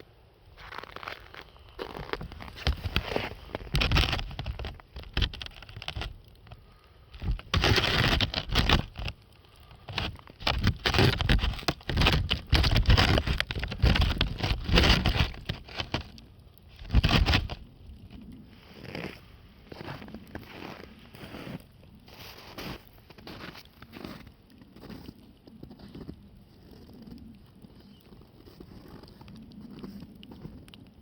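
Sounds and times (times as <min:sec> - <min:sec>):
campfire crackling and popping: 0:00.0 - 0:22.1, 0:22.8 - 0:31.0.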